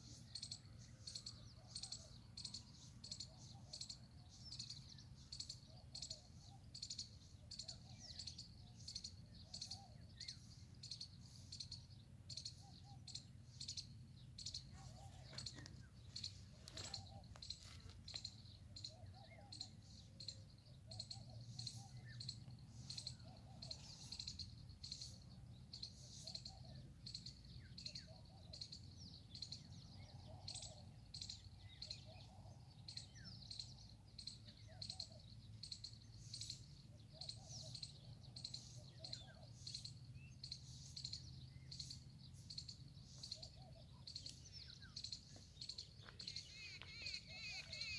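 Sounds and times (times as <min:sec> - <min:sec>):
lower bird calls: 0:00.1 - 0:47.9.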